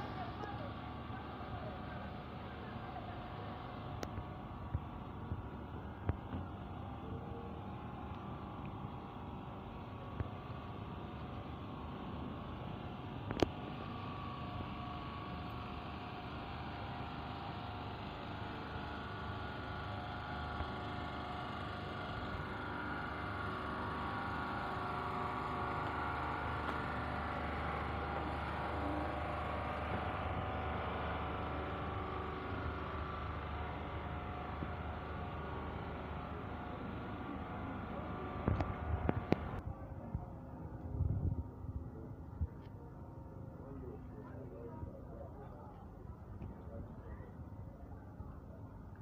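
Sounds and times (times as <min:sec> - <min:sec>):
low motor hum: 0:00.0 - 0:49.0.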